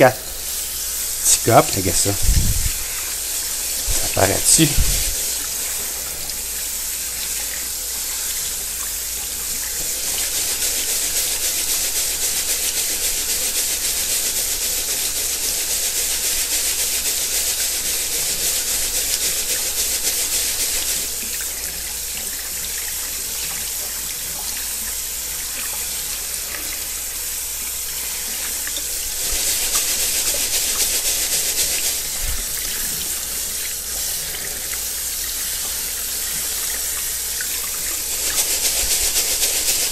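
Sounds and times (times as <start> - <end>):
faucet water running into sink: 0.0 - 39.9.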